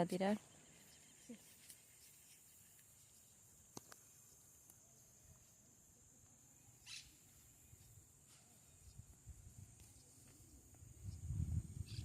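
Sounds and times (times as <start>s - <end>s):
high-pitched insect trill: 0.2s - 12.0s.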